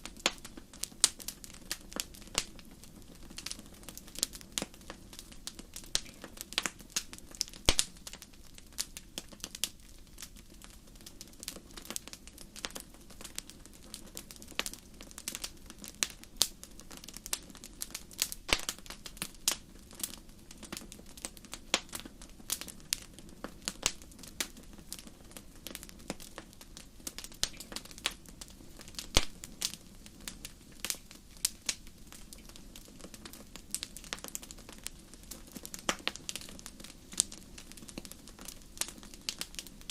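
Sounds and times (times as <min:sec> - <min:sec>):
campfire pops and snaps: 0:00.0 - 0:39.9.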